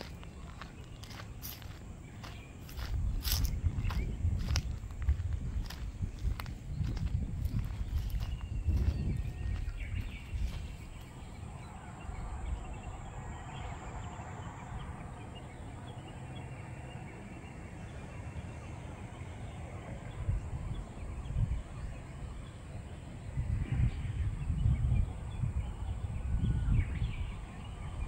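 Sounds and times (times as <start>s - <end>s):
wind buffeting microphone: 0.0s - 15.7s, 19.8s - 28.0s.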